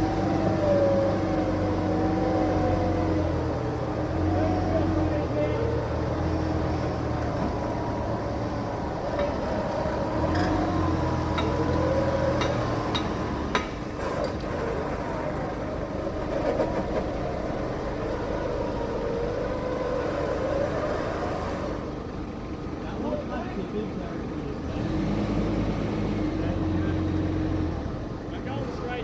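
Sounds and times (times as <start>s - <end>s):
engine revving: 0.0s - 22.0s, 24.6s - 28.0s.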